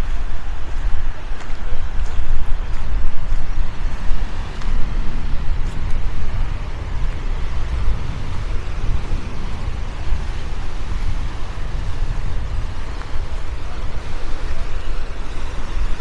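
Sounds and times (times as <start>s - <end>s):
wind buffeting microphone: 0.0s - 16.0s
small waves breaking on shore: 0.1s - 16.0s.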